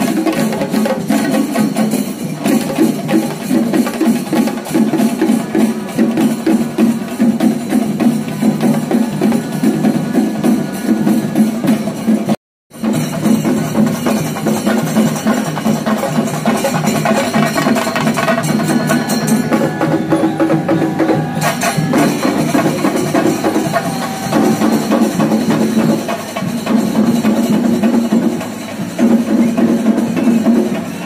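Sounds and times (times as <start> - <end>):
fast drumming ensemble: 0.0 - 31.0.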